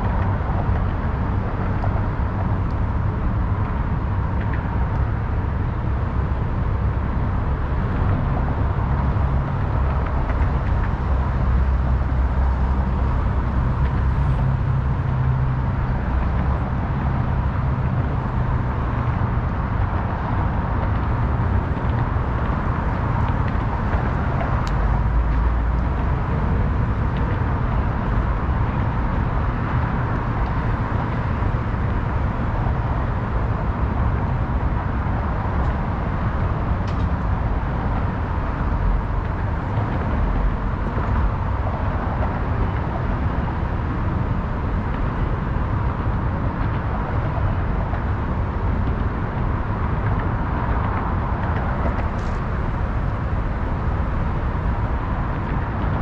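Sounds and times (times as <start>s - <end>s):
rumble of passing vehicles: 0.0s - 56.0s.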